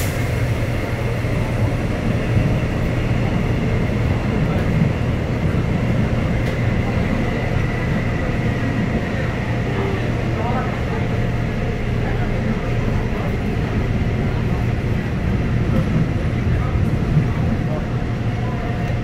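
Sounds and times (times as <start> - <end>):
subway car low rumble: 0.0 - 19.0.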